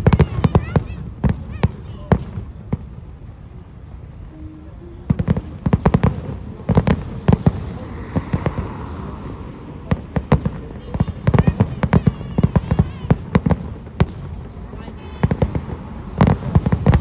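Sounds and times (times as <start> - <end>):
firework bangs: 0.0 - 4.2, 5.0 - 17.0
firework crackling hiss: 1.3 - 17.0.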